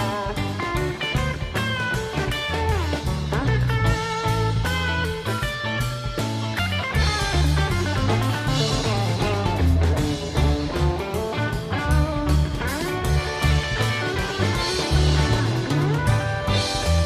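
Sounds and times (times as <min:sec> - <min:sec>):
bass and drum beat: 0:00.0 - 0:17.0
guitar lines: 0:00.0 - 0:17.0.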